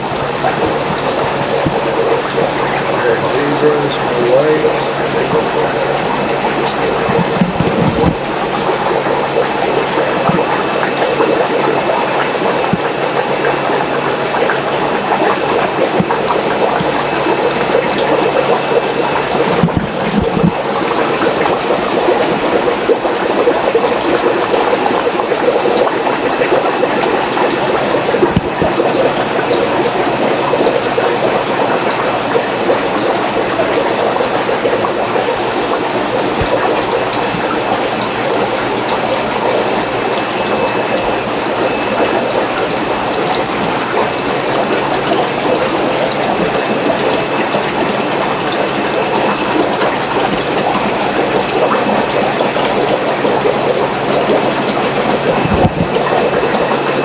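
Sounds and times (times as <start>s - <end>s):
running and trickling water: 0.0s - 57.0s.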